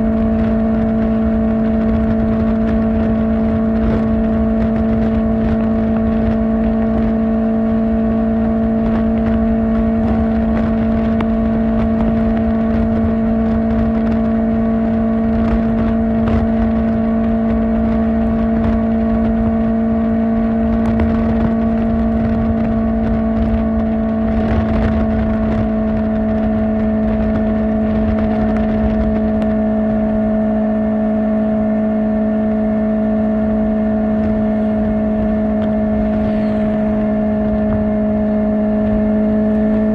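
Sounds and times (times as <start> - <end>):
motorcycle engine droning: 0.0 - 39.9
wind buffeting microphone: 0.0 - 39.9.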